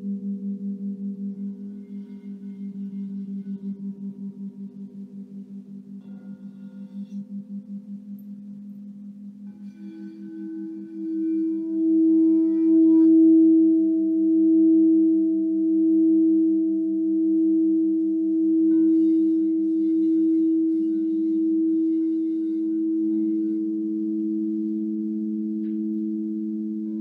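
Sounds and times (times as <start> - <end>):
crystal singing bowls ringing: 0.0 - 27.0.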